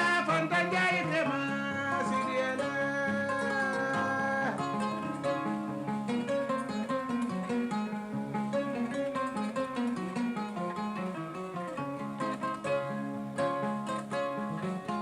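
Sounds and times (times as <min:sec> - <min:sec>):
kora plucked notes: 0:00.0 - 0:15.0.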